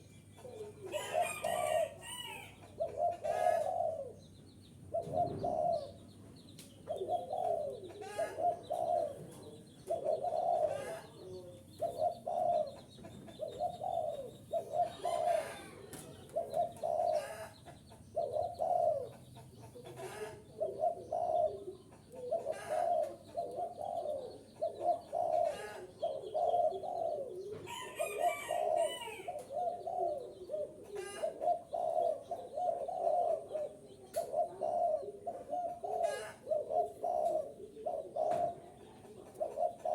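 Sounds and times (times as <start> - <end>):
dove cooing: 0.0 - 6.1, 6.8 - 39.9.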